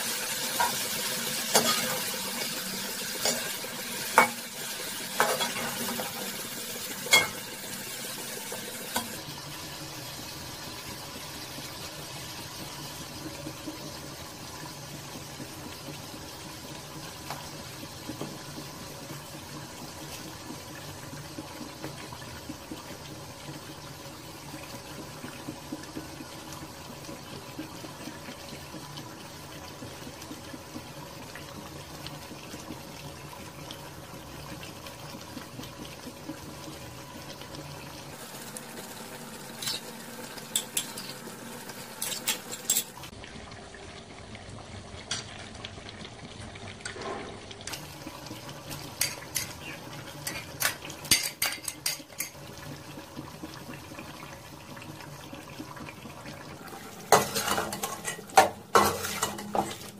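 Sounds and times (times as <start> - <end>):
food simmering with watery sizzle: 0.0 - 59.9.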